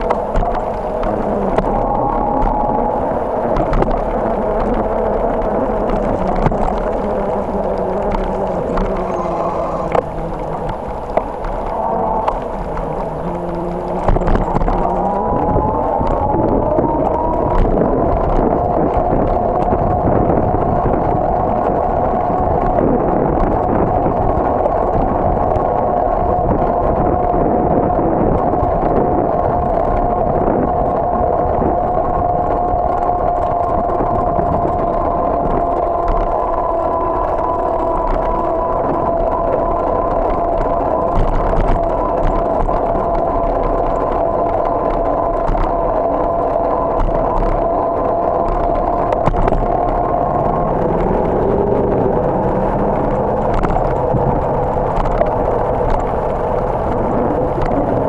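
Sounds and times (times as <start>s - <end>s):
faint wavering whine: 0.0s - 58.0s
rushing wind: 0.0s - 58.0s.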